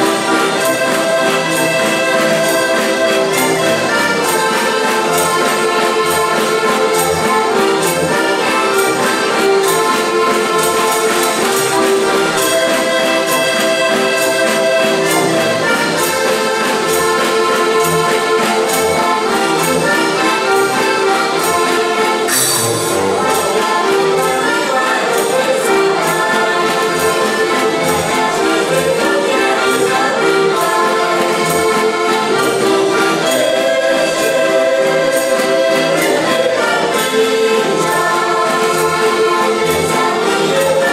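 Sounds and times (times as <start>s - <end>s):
accordions playing a folk tune: 0.0s - 40.9s.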